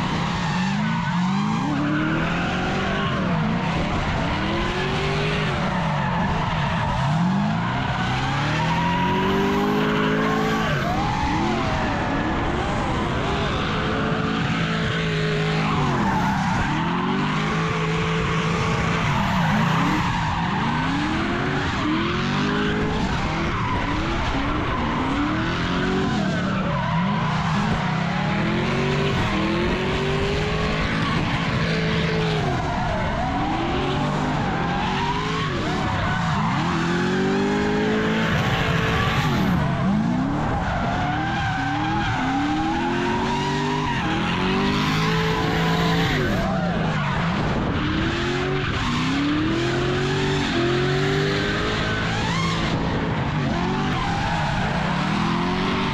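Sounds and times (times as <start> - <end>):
car engine revving: 0.0 - 55.9
tyres skidding and squealing: 0.0 - 55.9.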